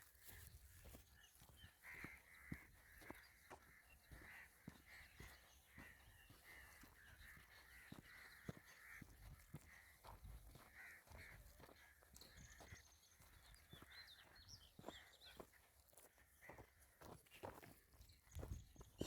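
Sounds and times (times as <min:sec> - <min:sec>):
footsteps on a path: 0:00.0 - 0:19.0
faint crow calls: 0:00.2 - 0:17.8.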